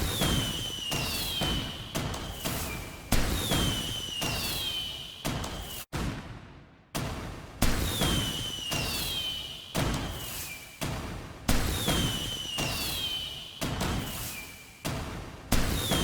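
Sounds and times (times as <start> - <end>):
falling firework whistles: 0.0 - 5.9, 7.6 - 14.9, 15.6 - 16.0
firework bangs: 0.0 - 6.6, 7.6 - 10.8, 11.5 - 14.8, 15.5 - 16.0.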